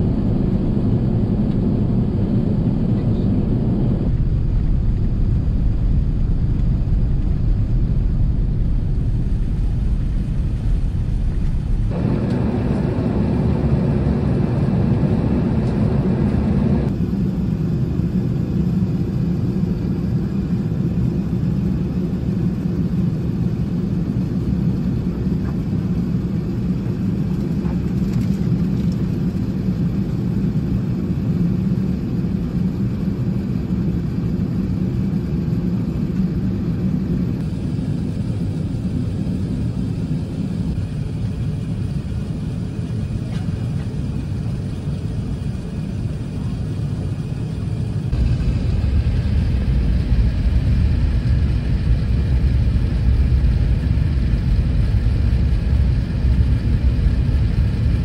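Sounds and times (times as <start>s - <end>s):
aircraft cabin engine rumble: 0.0s - 58.0s.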